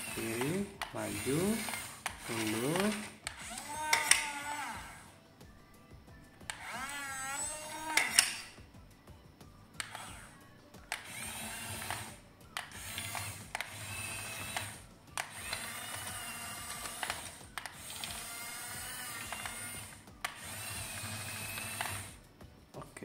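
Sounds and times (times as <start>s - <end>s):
motor click: 0.0s - 5.0s, 6.5s - 8.5s, 9.8s - 10.3s, 10.9s - 22.2s
toy electric motors whining: 0.0s - 5.2s, 6.4s - 8.6s, 9.8s - 22.2s.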